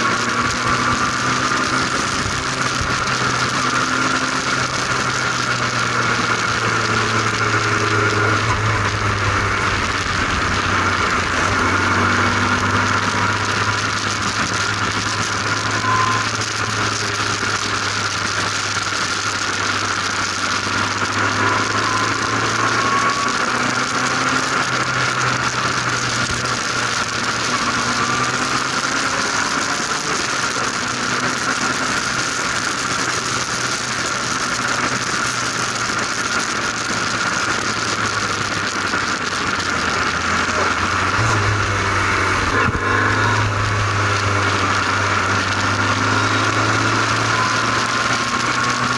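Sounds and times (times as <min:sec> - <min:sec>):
race car engine running: 0:00.0 - 0:48.9.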